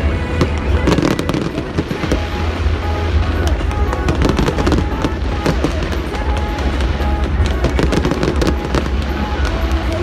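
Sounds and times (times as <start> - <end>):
fireworks crackling pops: 0.0 - 10.0
fireworks rumble: 0.0 - 10.0.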